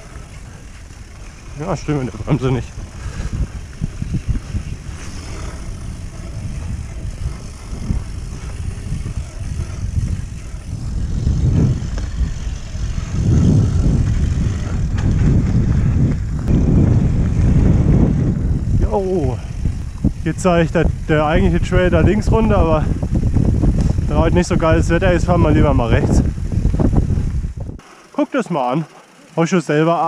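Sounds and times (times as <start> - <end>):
wind on microphone: 0.0 - 27.8
bike tyre and frame rattle: 0.0 - 30.0.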